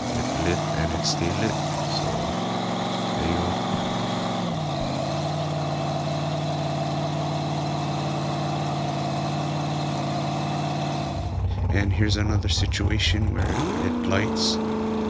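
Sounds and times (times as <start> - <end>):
drag racing engine idling: 0.0 - 15.0.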